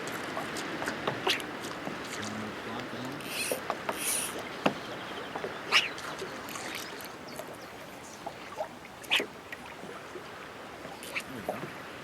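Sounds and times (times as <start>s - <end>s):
water splashes: 0.0s - 12.0s
water washing: 0.0s - 12.0s.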